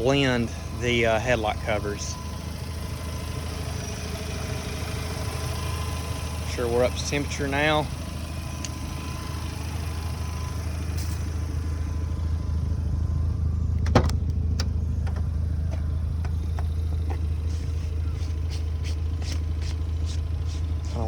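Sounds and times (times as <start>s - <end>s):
rotary engine idling: 0.0s - 21.0s.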